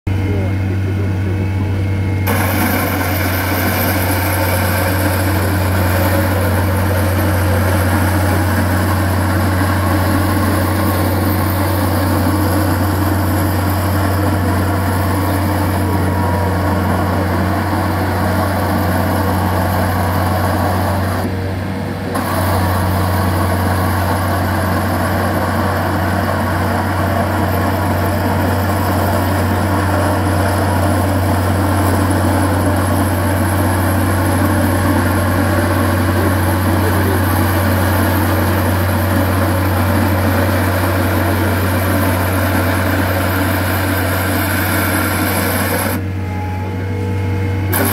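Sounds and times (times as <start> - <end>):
diesel engine running under load: 0.1 - 47.9.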